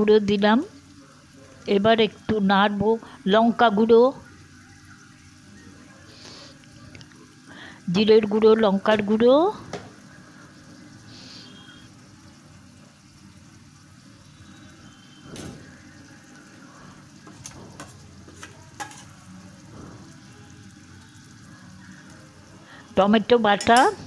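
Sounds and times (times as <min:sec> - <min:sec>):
spices sizzling in oil: 0:00.0 - 0:24.0.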